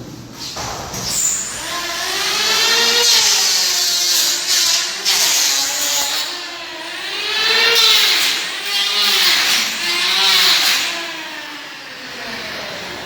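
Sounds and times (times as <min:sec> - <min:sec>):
power tool cutting: 0:00.4 - 0:13.0.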